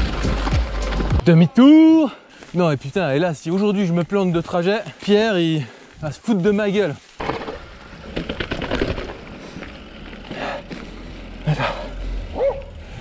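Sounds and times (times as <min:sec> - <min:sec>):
mountain bike rattling: 0:02.4 - 0:13.0.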